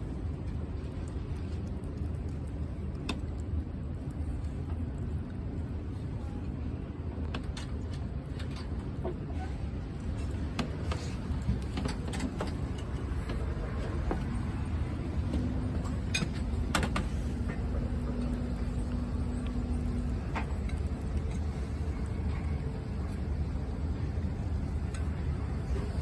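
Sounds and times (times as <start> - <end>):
faint hum: 0.0 - 26.0
low background rumble: 0.0 - 26.0.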